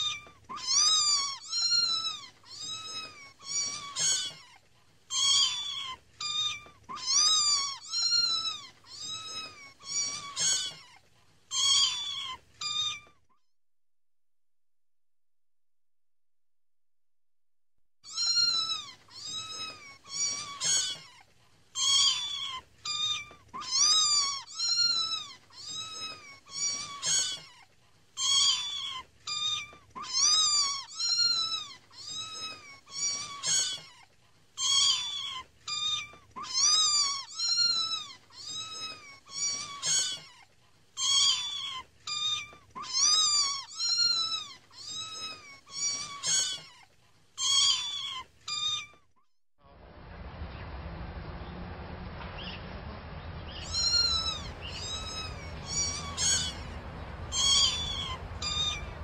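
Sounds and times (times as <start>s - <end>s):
kittens mewing: 0.0s - 13.2s, 18.1s - 49.1s, 53.6s - 59.0s.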